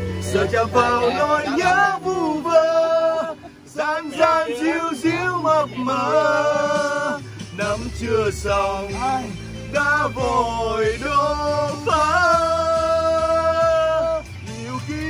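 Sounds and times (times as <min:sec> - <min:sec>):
men singing with long held notes: 0:00.0 - 0:15.0
music accompaniment with bass line: 0:00.0 - 0:15.0.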